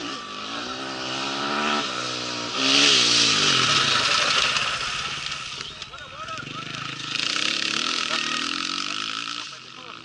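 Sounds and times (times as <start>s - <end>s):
motorcycle accelerating past: 0.0s - 5.6s, 6.3s - 10.0s.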